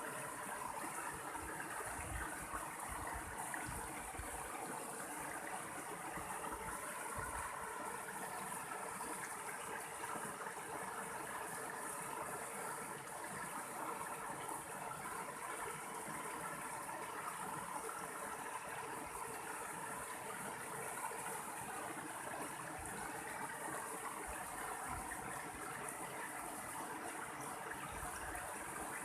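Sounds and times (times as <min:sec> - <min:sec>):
stream water splashing over rocks: 0:00.0 - 0:29.0.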